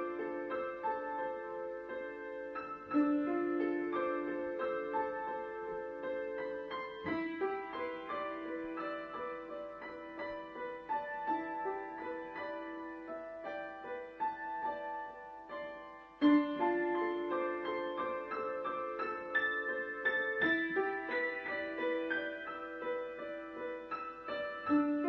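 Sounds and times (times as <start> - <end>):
slow piano piece: 0.0 - 25.0.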